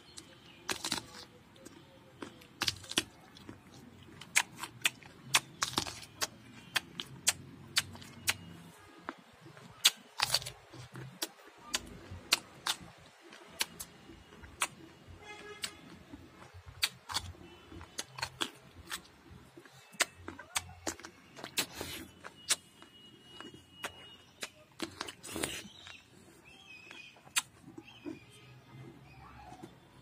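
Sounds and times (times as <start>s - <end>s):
crunchy chewing of fruit: 0.0s - 30.0s.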